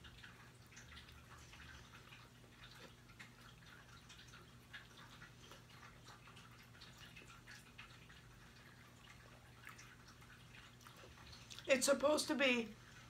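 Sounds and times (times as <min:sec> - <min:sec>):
low steady hum: 0:00.0 - 0:13.0
chewing sandwich: 0:00.1 - 0:11.7.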